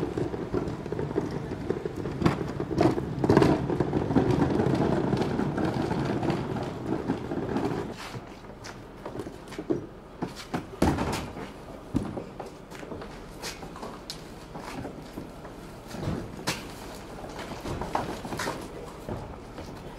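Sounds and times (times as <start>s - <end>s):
wheelie bin rolling on pavement: 0.0s - 19.9s.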